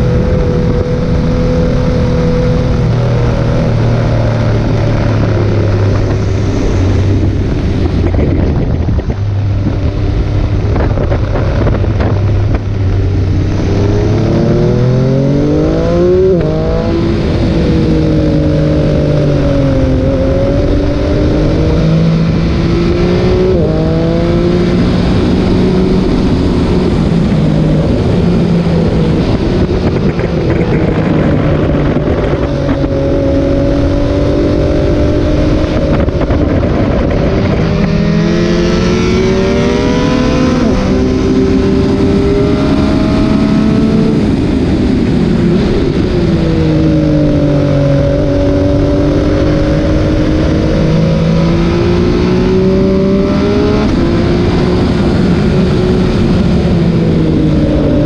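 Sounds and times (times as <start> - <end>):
motorcycle engine revving: 0.0 - 58.0
rush of noise: 0.0 - 58.0.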